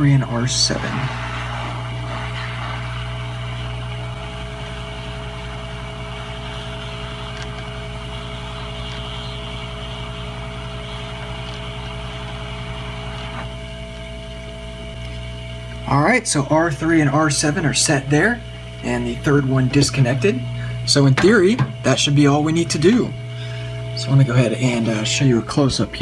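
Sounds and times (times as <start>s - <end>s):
constant low hum: 0.0s - 26.0s
hot air blower: 0.0s - 26.0s.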